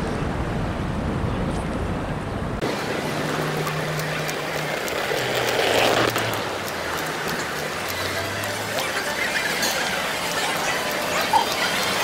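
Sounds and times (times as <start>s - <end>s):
deep traffic rumble: 0.0s - 12.0s
street noise: 0.0s - 12.0s.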